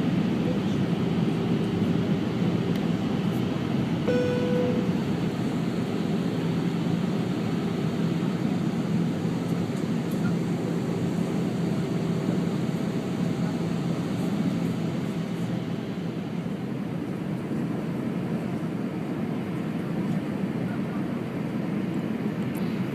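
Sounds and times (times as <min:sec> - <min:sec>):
aircraft cabin engine roar: 0:00.0 - 0:22.9.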